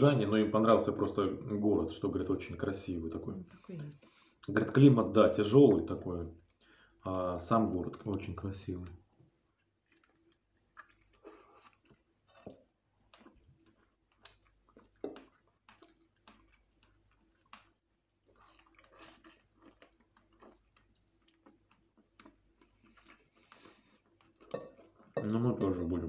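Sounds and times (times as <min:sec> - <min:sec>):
faint chewing and mouth sounds: 0:00.6 - 0:26.0.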